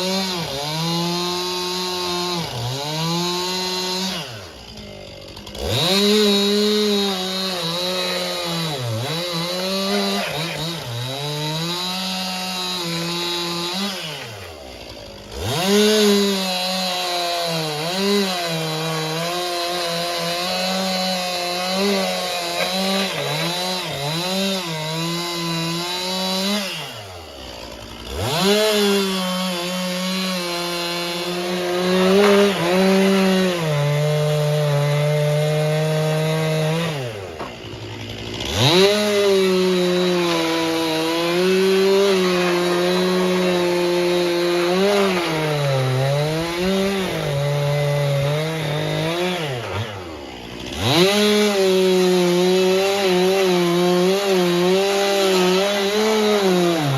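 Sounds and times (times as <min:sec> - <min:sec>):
chainsaw revving and cutting: 0:00.0 - 0:56.9.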